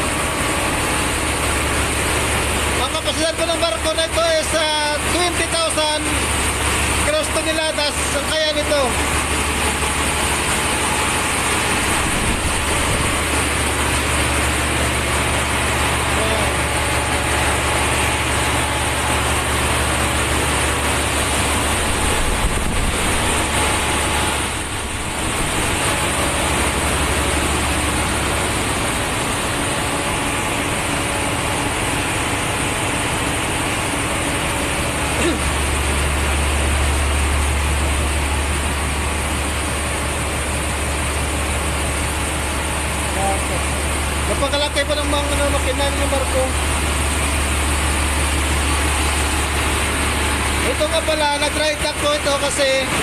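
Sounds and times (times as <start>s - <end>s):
engine room machinery roar: 0.0s - 53.0s.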